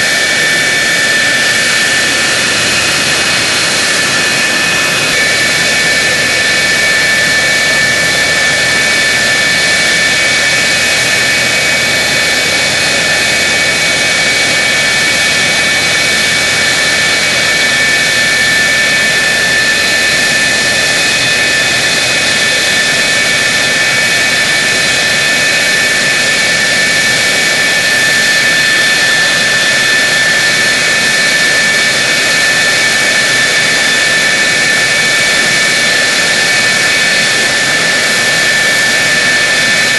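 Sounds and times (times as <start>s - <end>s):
jet engine idling with high whine: 0.0s - 39.9s.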